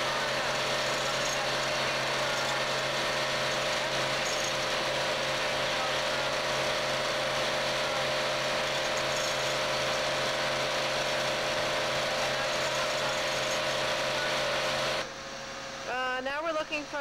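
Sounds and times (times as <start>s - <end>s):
vibratory pile hammer buzzing: 0.0s - 15.1s
constant hum: 0.0s - 17.0s.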